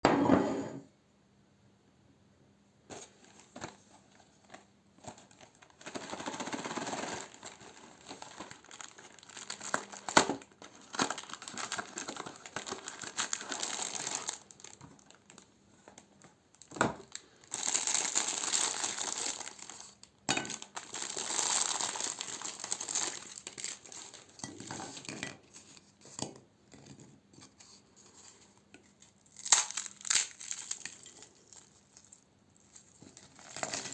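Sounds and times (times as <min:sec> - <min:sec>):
paper wrapper crinkling and tearing: 0:02.9 - 0:25.8, 0:28.0 - 0:33.9.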